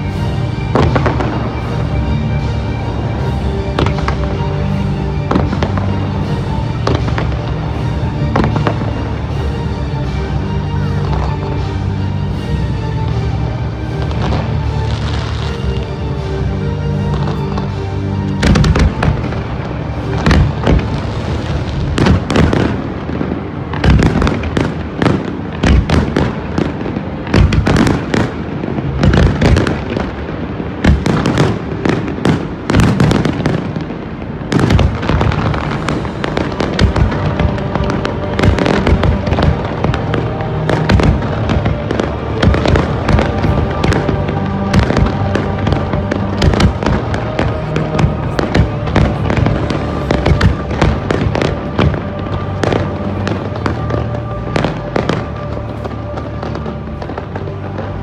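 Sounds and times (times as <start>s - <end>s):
fireworks bursting: 0.0s - 9.7s, 13.8s - 58.0s
music playing: 0.0s - 58.0s.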